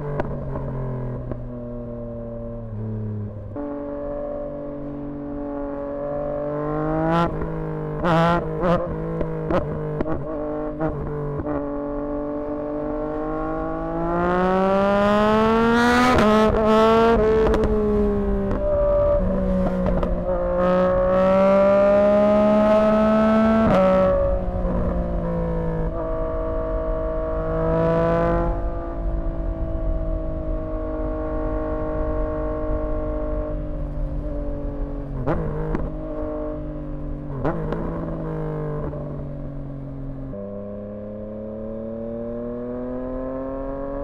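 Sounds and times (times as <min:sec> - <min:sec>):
motorcycle engine revving: 0:04.8 - 0:44.0.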